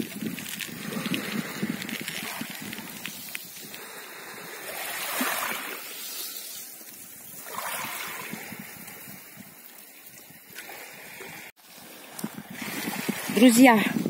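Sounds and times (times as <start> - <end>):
small waves lapping on beach: 0.0 - 14.0.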